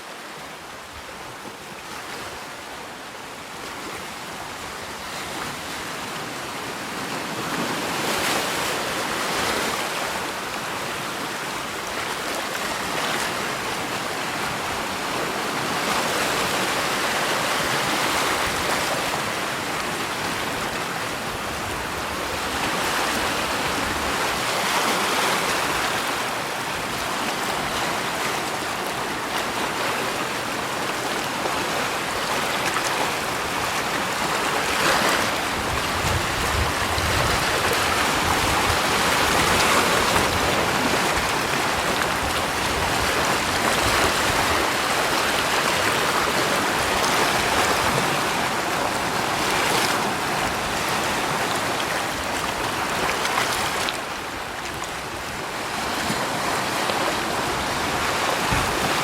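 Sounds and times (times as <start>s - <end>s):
waves washing in: 0.0s - 59.0s.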